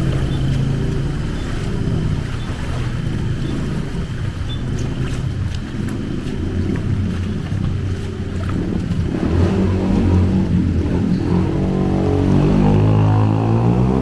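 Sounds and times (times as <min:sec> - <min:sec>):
floodwater washing: 0:00.0 - 0:14.0
vehicle engine drone: 0:00.0 - 0:14.0.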